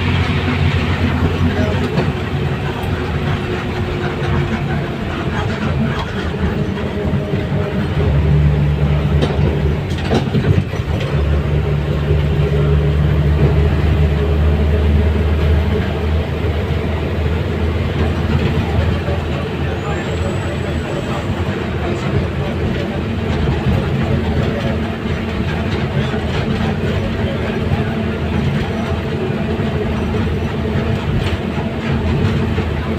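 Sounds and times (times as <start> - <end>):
low engine drone: 0.0 - 32.9
road vehicle rumble: 0.0 - 32.9.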